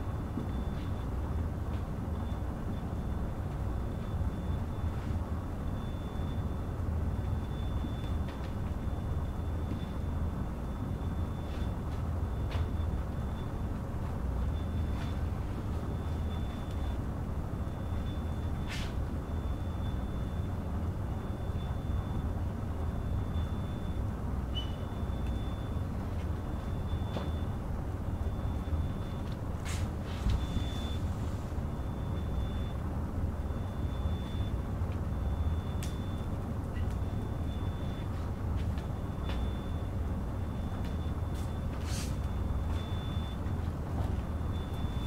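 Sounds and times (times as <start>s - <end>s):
low room rumble: 0.0s - 45.0s.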